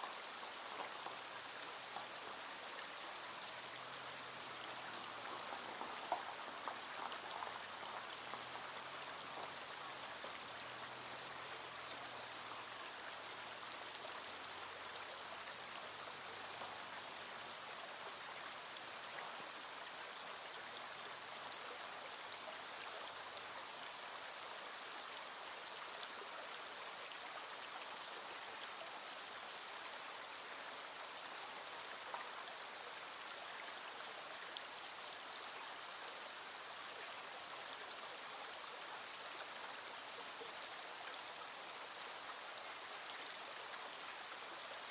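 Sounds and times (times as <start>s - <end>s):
light rain falling: 0.0s - 44.9s
stream flowing: 0.0s - 44.9s.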